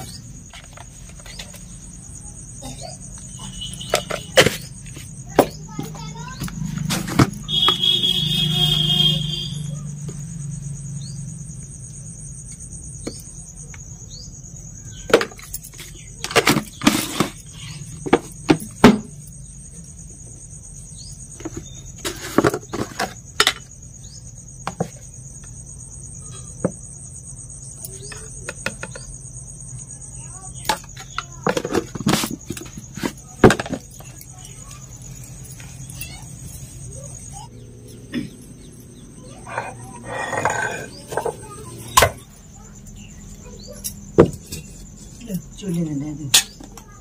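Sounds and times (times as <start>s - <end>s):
crickets chirring: 0.0s - 47.0s.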